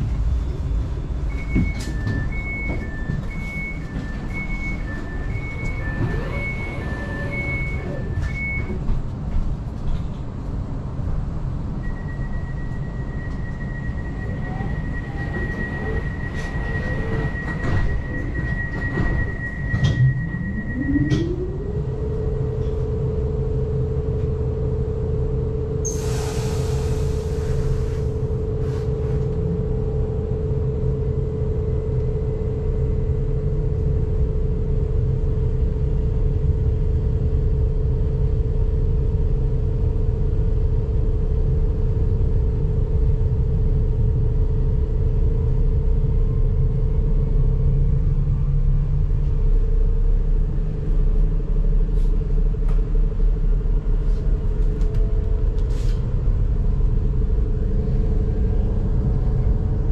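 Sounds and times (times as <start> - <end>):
constant train hum: 0.0 - 59.9
train wheels rumbling on track: 0.0 - 59.9.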